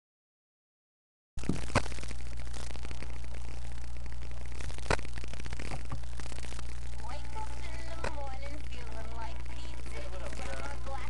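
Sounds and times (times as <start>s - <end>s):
electrical hum and hiss: 1.4s - 11.0s.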